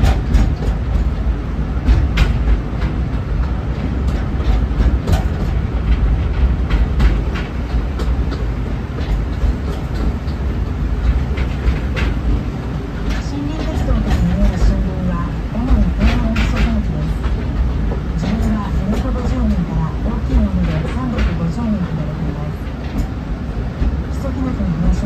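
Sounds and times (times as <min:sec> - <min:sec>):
train rumbling along track: 0:00.0 - 0:25.0.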